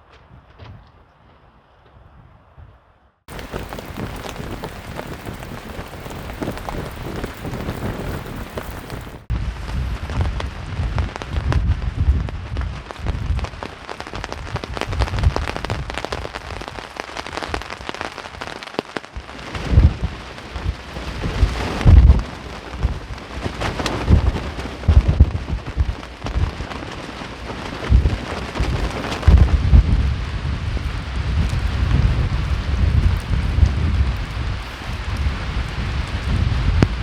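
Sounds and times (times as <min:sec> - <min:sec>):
wind buffeting microphone: 0:00.0 - 0:18.6, 0:19.2 - 0:37.0
heavy rain pattering: 0:03.3 - 0:37.0.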